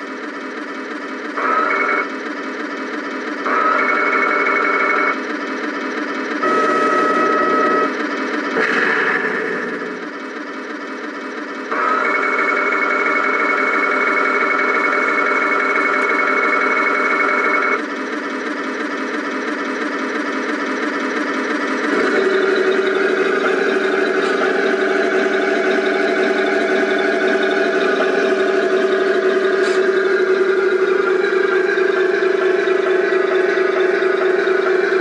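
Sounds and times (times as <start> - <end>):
model tank engine sound idling: 0.0 - 35.0
turret traversing whine: 0.0 - 35.0.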